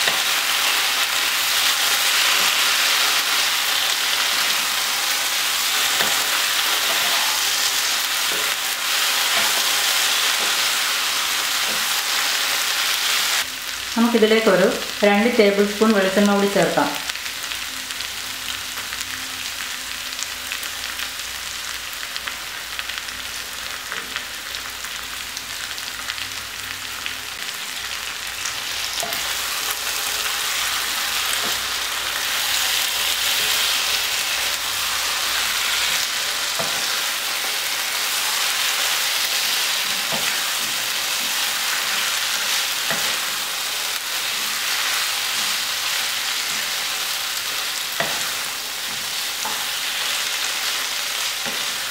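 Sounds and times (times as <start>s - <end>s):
beef sizzling in oil: 0.0s - 51.9s.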